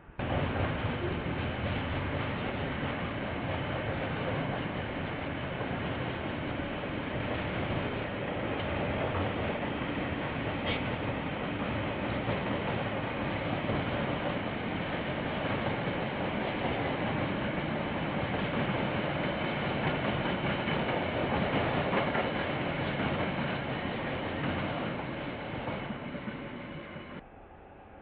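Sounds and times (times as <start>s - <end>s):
train rolling on rails: 0.0s - 27.9s.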